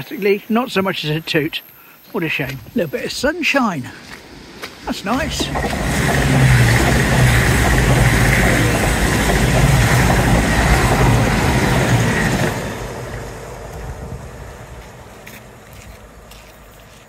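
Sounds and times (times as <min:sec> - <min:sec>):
diesel engines humming: 0:00.0 - 0:17.0
rush of wheels on rails: 0:02.2 - 0:17.0.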